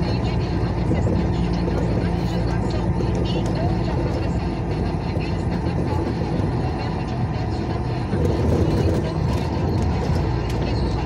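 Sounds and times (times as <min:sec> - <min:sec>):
low engine drone: 0:00.0 - 0:11.0
tyre and road noise: 0:00.0 - 0:11.0.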